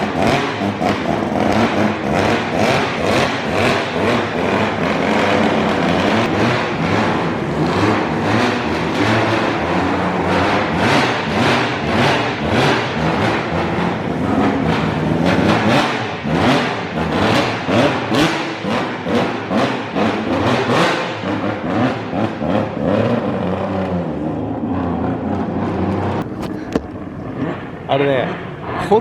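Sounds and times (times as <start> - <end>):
kart engine throttle blips: 0.0 - 29.0.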